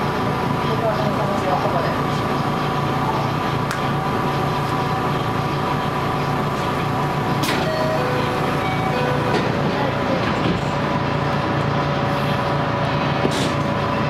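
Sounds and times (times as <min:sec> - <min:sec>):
electric train hum: 0:00.0 - 0:14.0.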